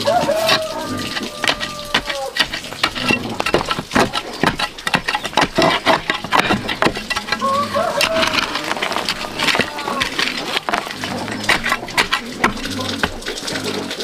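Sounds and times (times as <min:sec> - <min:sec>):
sharp knocks and taps: 0:00.0 - 0:13.8.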